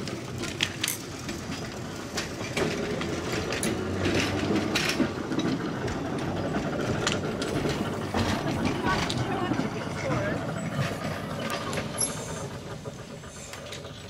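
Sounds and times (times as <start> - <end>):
electric tram rumbling: 0.0 - 14.0.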